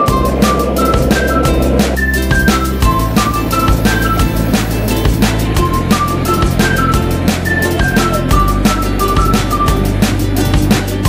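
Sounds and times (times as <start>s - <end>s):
deep bass line: 0.0s - 11.0s
melody over drum beat: 0.0s - 11.0s.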